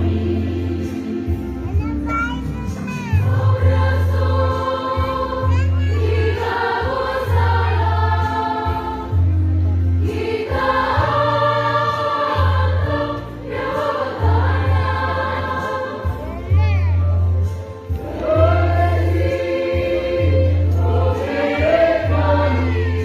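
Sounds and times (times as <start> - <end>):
choir singing in harmony: 0.0 - 1.8, 3.2 - 23.0.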